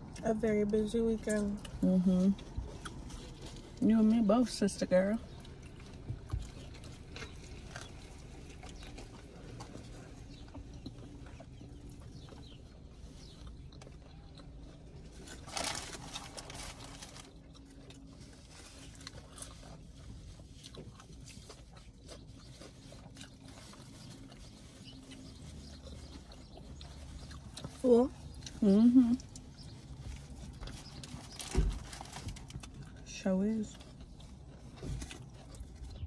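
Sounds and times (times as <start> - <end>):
low steady hum: 0.0 - 36.0
soft chewing: 0.0 - 36.0.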